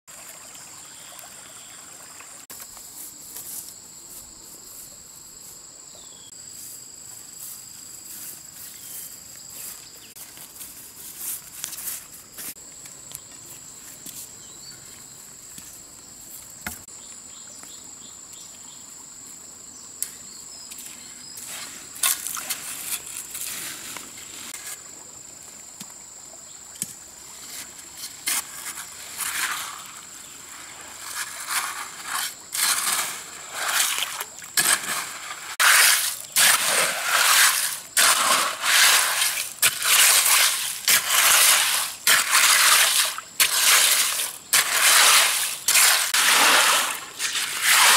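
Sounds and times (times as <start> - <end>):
insects droning: 0.3 - 47.9.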